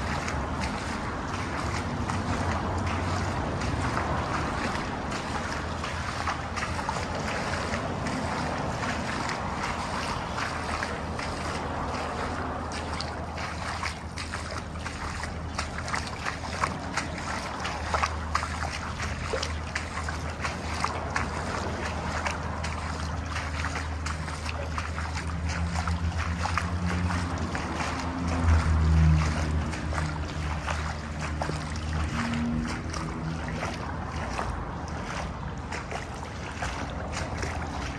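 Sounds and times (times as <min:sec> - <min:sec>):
footsteps on gritty concrete: 0:00.0 - 0:37.9.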